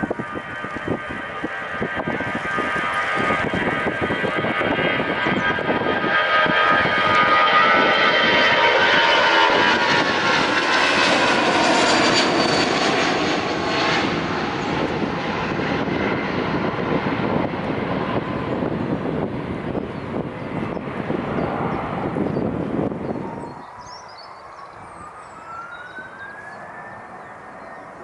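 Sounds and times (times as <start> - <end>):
jet engine roar with whine: 0.0 - 28.0.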